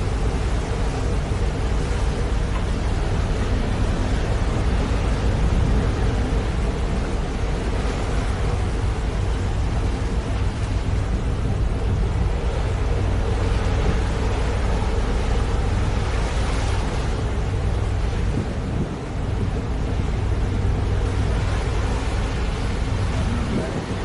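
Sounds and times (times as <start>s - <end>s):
steady engine drone: 0.0s - 24.0s.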